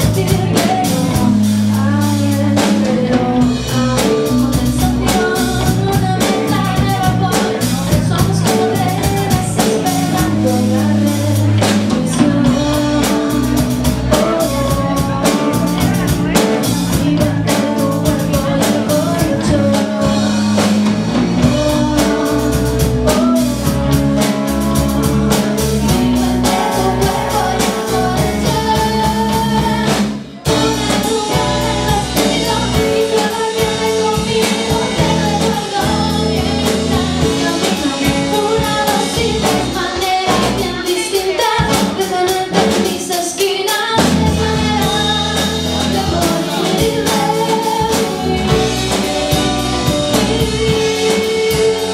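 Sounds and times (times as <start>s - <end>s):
song with singing and drums: 0.0s - 51.9s.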